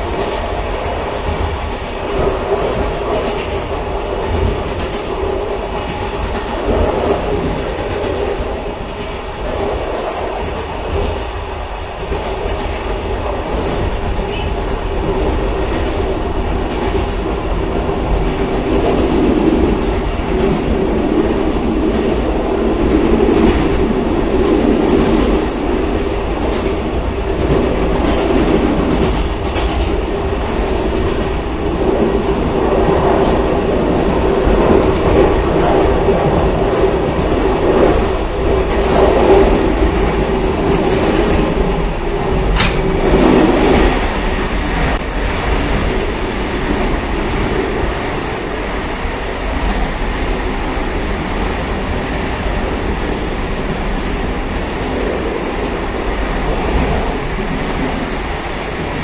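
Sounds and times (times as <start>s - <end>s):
railcar rumbling on track: 0.0s - 59.0s.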